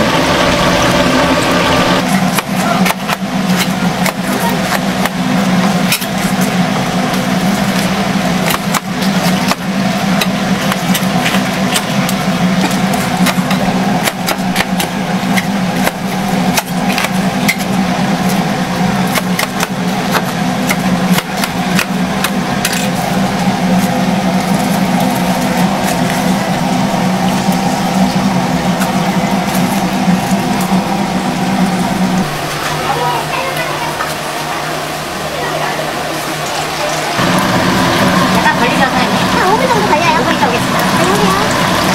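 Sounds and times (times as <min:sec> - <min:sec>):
low machine hum: 0:00.0 - 0:41.9.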